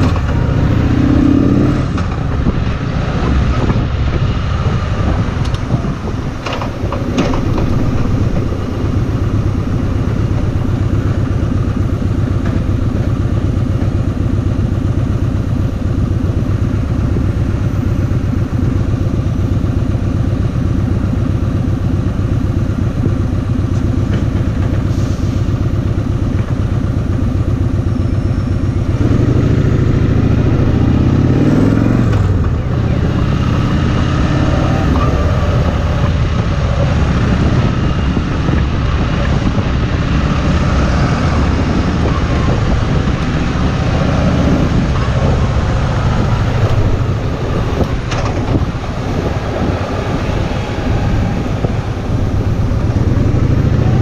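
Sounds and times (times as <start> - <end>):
motorcycle engine running: 0.0 - 24.9, 25.5 - 54.0
wind and road rush: 0.0 - 54.0.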